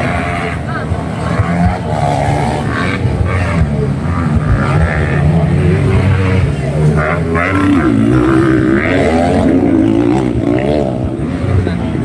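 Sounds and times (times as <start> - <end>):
motorcycle engines revving: 0.0 - 12.0
steady low drone: 0.0 - 12.0.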